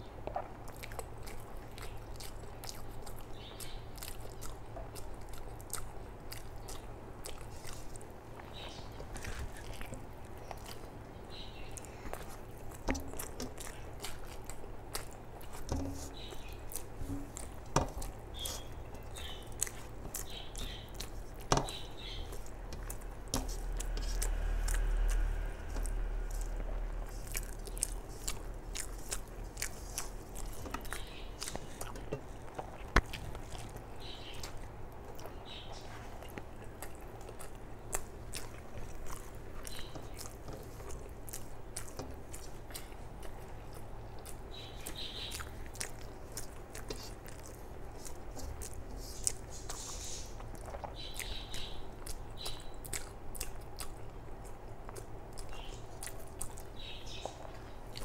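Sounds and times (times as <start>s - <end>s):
chewing and lip smacking: 0.0s - 58.0s
fingers squishing rice: 0.3s - 58.0s.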